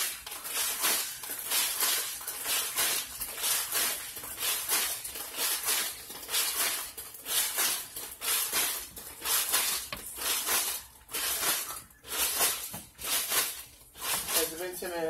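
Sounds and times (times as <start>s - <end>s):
ice rattling and crunching: 0.0s - 14.9s.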